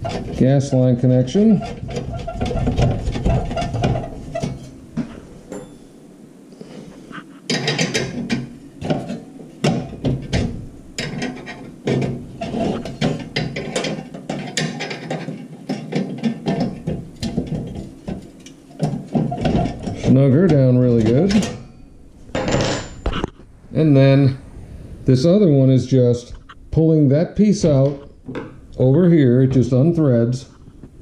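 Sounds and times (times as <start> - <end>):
handling noise: 0.0 - 31.0.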